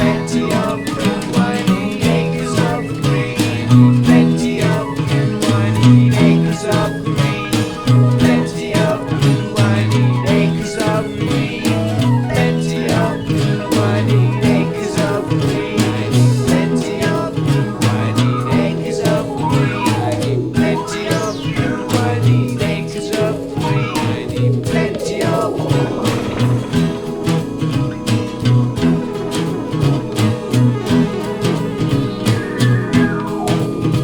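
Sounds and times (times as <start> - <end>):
instrumental music with beat: 0.0 - 34.0.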